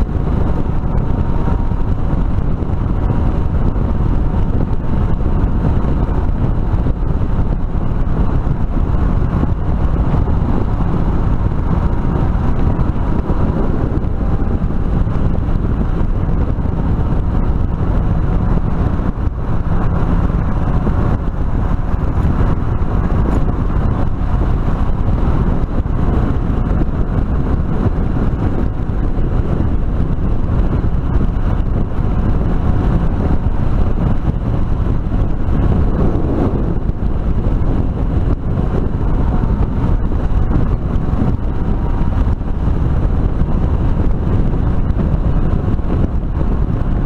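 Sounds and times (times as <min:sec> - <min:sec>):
motorcycle engine running: 0:00.0 - 0:47.0
wind rush on microphone: 0:00.0 - 0:47.0.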